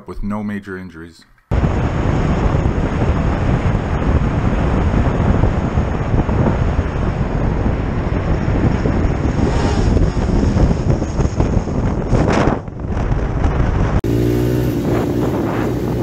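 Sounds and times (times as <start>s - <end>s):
motorcycle rumbling on road: 1.5s - 16.0s
wind noise on microphone: 1.5s - 16.0s.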